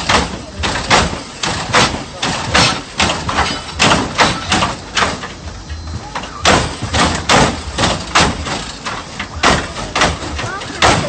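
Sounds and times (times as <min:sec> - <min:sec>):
hydraulic car slams and clanks: 0:00.0 - 0:11.0.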